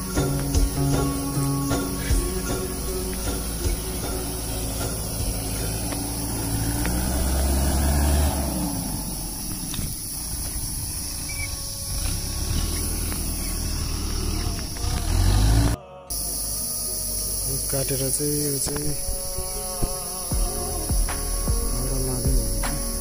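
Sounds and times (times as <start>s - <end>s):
tractor engine running: 0.0s - 16.2s, 17.1s - 23.0s.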